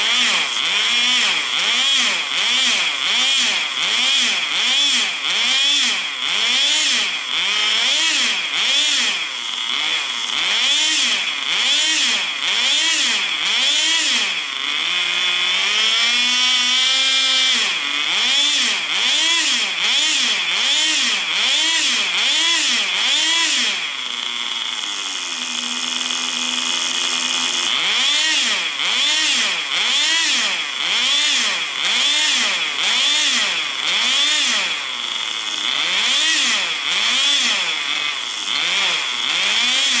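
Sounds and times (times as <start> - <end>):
rc car engine running: 0.0 - 40.0.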